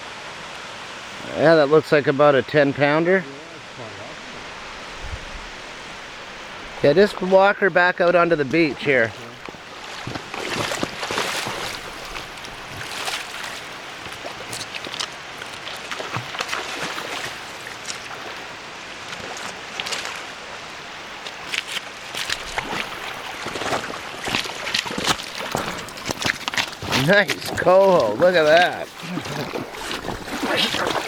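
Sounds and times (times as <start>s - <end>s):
river water running: 0.0s - 31.0s
water splashing and sloshing: 3.6s - 31.0s.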